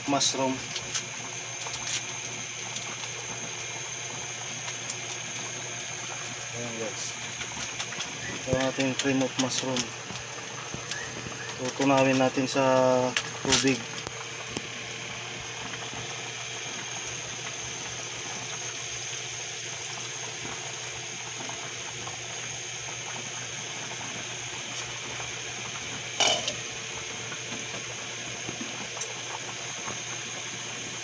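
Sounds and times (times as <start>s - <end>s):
broth simmering hiss: 0.0s - 31.0s.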